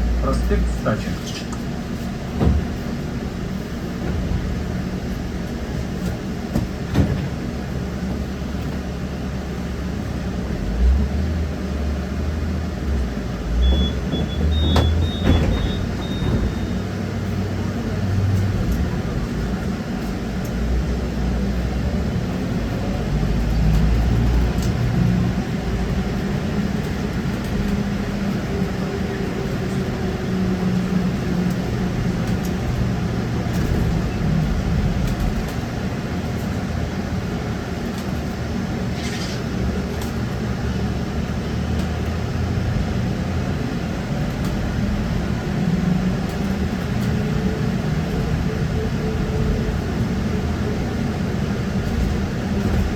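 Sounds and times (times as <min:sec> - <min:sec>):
road and rolling rumble: 0:00.0 - 0:52.9.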